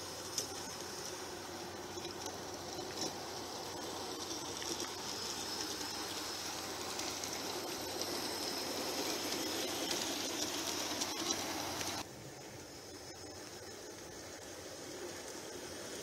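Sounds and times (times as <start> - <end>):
model train wheels rumbling on rail: 0.0 - 16.0.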